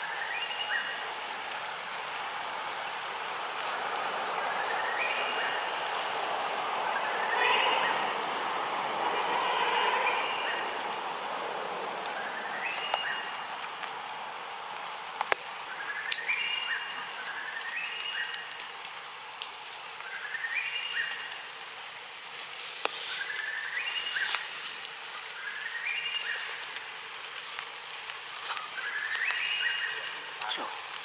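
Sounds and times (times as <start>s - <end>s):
forest ambience: 0.0s - 31.0s.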